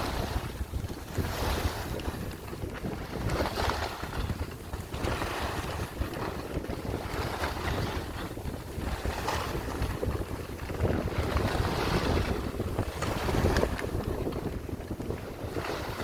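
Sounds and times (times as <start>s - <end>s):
skis carving through snow: 0.0s - 16.0s
wind buffeting microphone: 0.0s - 16.0s.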